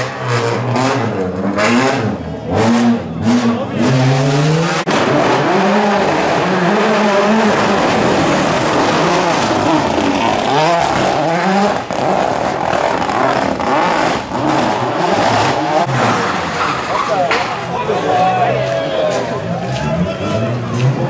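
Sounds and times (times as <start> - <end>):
rally car engine revving: 0.0 - 18.2.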